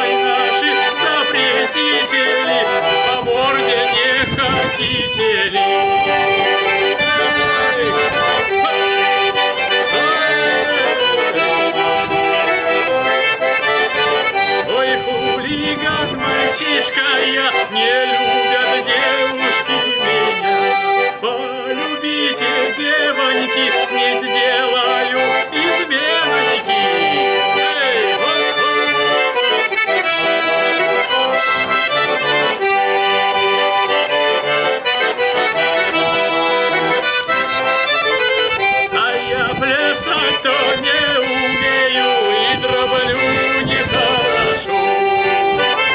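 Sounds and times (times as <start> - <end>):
button accordion playing folk tune: 0.0 - 45.9.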